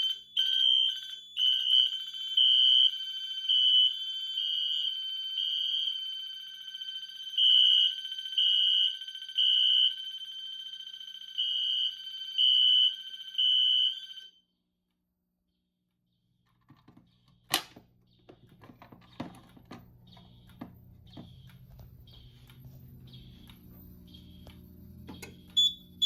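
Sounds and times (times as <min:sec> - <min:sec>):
pulsing fire alarm tone: 0:00.0 - 0:14.5, 0:18.1 - 0:26.0
faint repeating alarm tone: 0:00.0 - 0:26.0.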